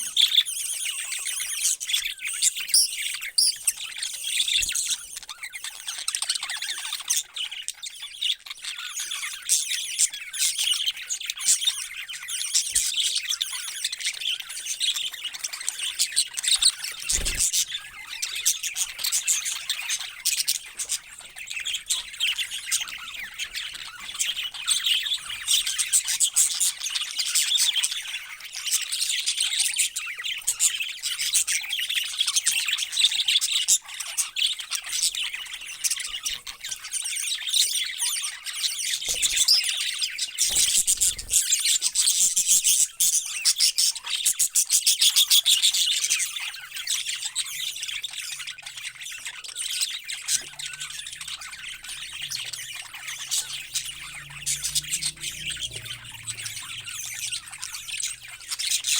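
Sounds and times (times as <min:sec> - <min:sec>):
parrots chirping and calling: 0:00.0 - 0:58.9.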